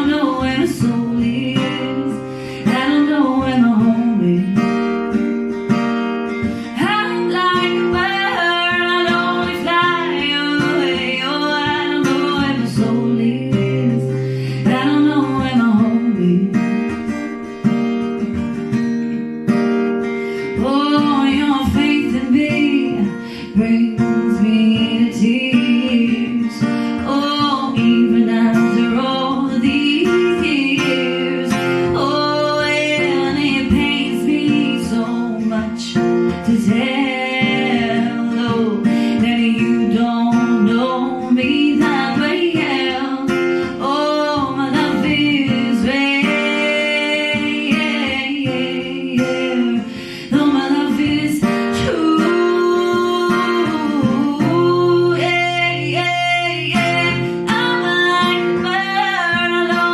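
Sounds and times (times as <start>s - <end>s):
person singing: 0.0s - 5.1s, 6.4s - 16.9s, 20.2s - 59.9s
acoustic guitar strumming: 0.0s - 59.9s.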